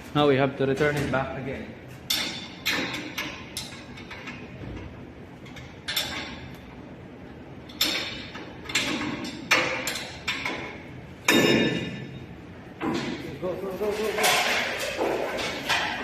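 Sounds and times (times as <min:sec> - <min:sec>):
hard parts knocking and scraping: 0:00.6 - 0:06.6, 0:07.6 - 0:12.2, 0:12.8 - 0:16.0.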